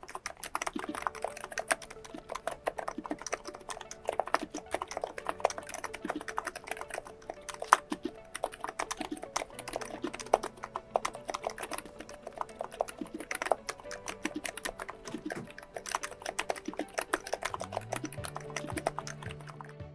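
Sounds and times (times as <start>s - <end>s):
fast keyboard typing: 0.0s - 19.9s
soft background music: 0.0s - 19.9s.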